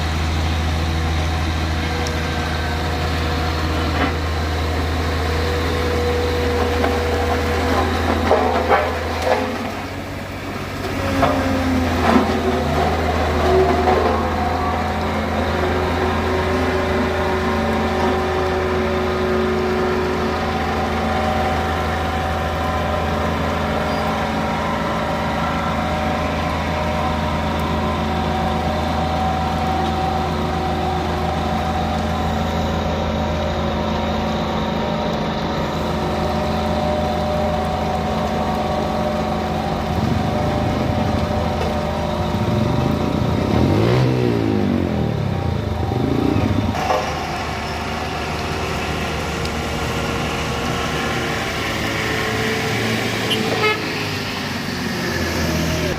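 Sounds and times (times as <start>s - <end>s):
heavy vehicle engine running: 0.0s - 55.9s.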